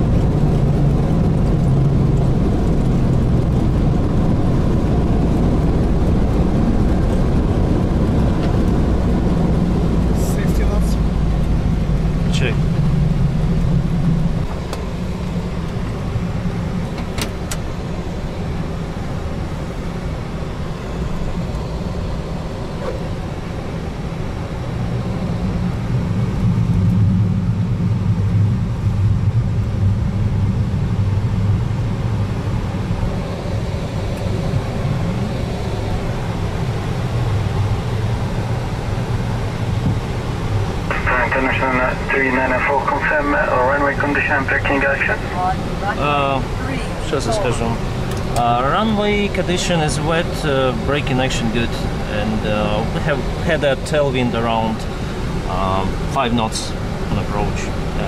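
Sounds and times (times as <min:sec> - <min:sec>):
aircraft engines idling: 0:00.0 - 0:58.0.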